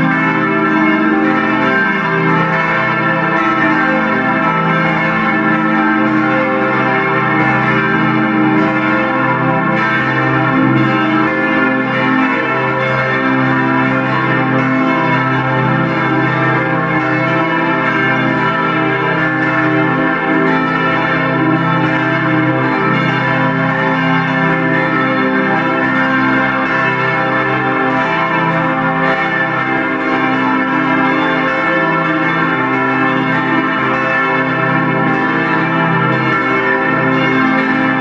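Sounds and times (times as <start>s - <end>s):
church bells pealing: 0.0s - 38.0s.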